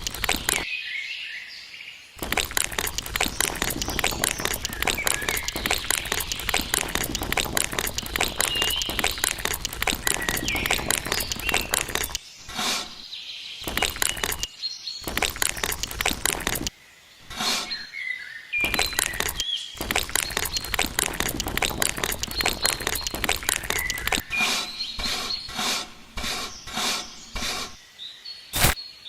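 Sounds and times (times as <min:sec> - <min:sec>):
birds chirping: 0:00.0 - 0:00.7, 0:02.2 - 0:28.8
rapid crackling and clicking: 0:00.0 - 0:00.7, 0:02.2 - 0:13.0, 0:13.6 - 0:17.8, 0:18.6 - 0:27.8, 0:28.6 - 0:28.8.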